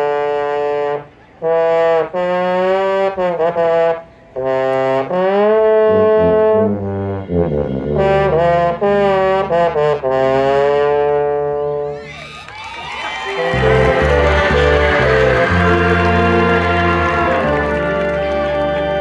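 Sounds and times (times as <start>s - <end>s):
brass band playing chords: 0.0s - 11.9s, 13.1s - 19.0s.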